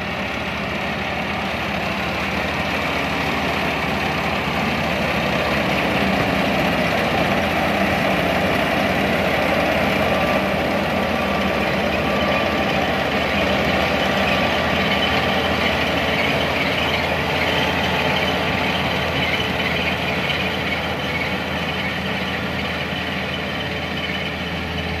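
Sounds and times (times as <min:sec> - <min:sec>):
combine harvester drone: 0:00.0 - 0:25.0.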